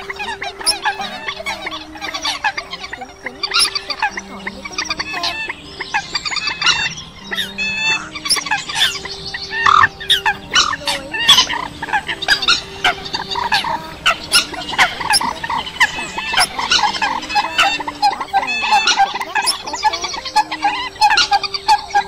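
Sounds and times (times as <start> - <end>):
chorus of waterbird calls: 0.0 - 22.0
low steady hums: 0.0 - 22.0.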